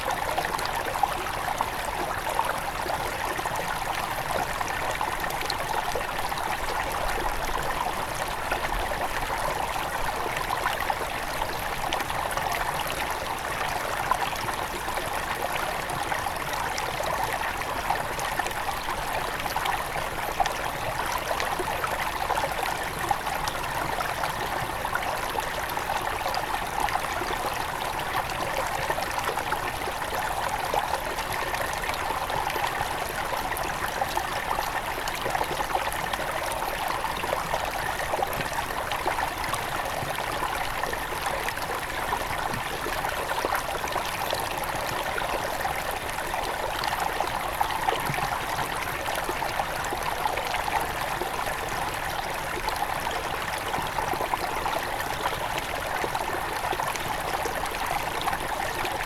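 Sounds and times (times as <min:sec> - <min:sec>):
river flowing over stones: 0:00.0 - 0:59.0.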